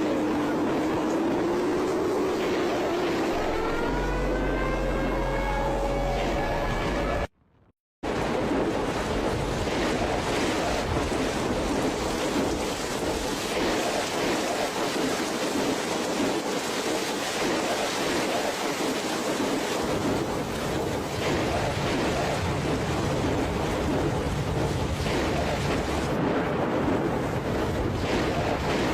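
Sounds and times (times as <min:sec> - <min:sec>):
floodwater rushing: 0:00.0 - 0:07.3, 0:08.0 - 0:28.9.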